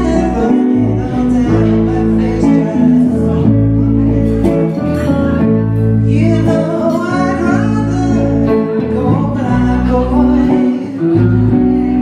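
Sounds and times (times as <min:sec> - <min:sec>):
electric guitar: 0:00.0 - 0:12.0
woman singing: 0:00.0 - 0:12.0.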